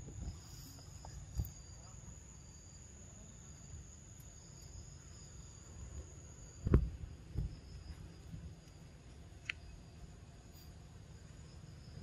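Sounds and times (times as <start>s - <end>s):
high-pitched insect tone: 0.0s - 12.0s
low outdoor rumble: 0.0s - 12.0s.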